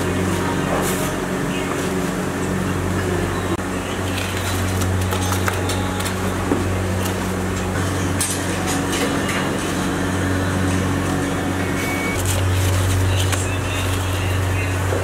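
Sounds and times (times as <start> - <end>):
low machine hum: 0.0 - 15.0
noisy wash: 0.0 - 15.0.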